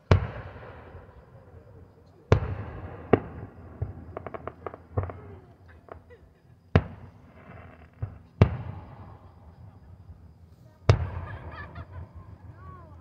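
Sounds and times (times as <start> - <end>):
firework cracks: 0.0 - 1.2, 2.3 - 9.8, 10.9 - 12.7
distant firework bangs: 0.0 - 13.0.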